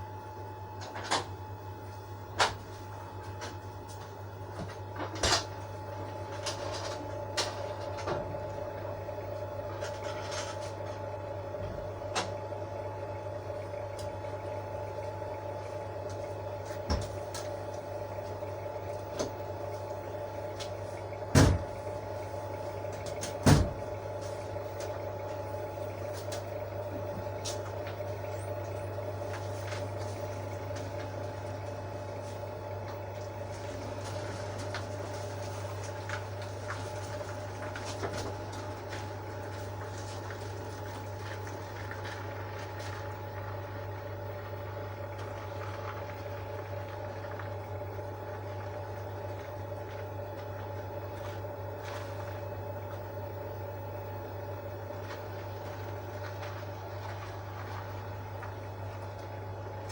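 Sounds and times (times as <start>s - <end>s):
steady hum: 0.0s - 59.9s.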